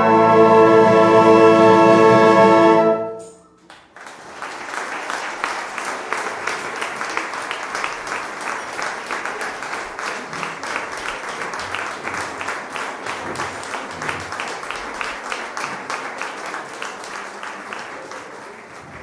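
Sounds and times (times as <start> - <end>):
audience applauding: 3.6 - 19.0.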